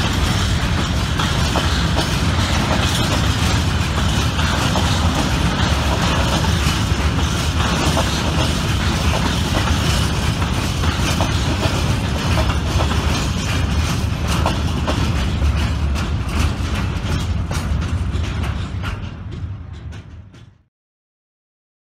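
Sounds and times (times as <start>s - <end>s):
wheels clicking over rail joints: 0.0s - 20.6s
freight train rolling past: 0.0s - 20.7s.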